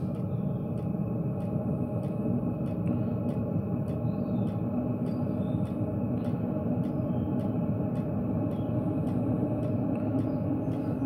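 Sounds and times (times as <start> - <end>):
fuel pump ticking: 0.0 - 11.0
heater blower hum: 0.0 - 11.0.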